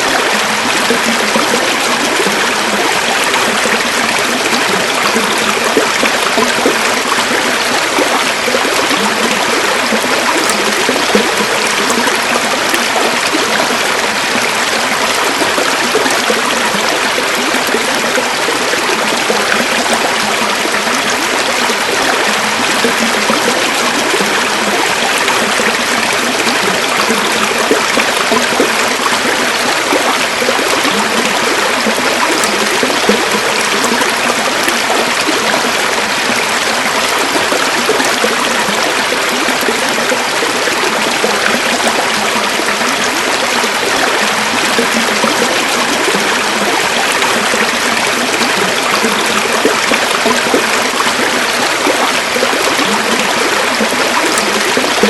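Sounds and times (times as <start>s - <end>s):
stream water running over rocks: 0.0s - 55.0s.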